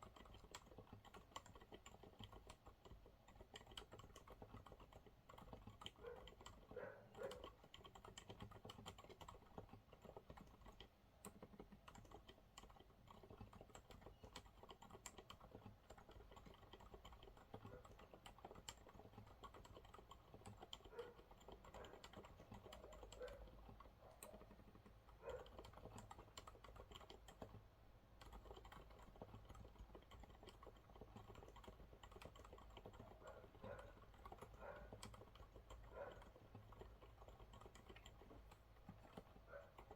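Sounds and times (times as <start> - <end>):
muted keyboard typing: 0.0 - 39.9.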